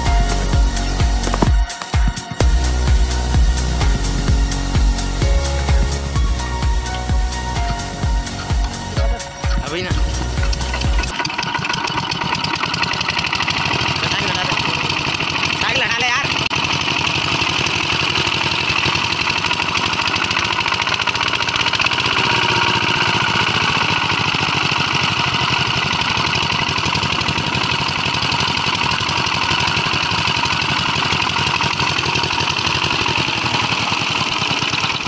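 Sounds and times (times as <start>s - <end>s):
diesel pump engine running: 0.0s - 35.0s.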